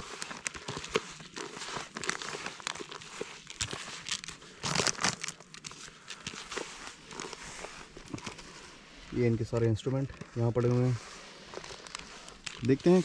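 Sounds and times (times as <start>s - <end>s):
groundbait packs crinkling: 0.0s - 13.0s.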